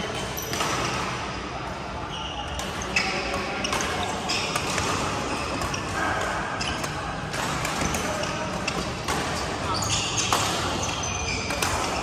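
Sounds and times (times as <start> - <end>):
shoes squeaking on court floor: 0.0 - 12.0
racket hitting shuttlecock: 0.1 - 1.2, 2.5 - 12.0.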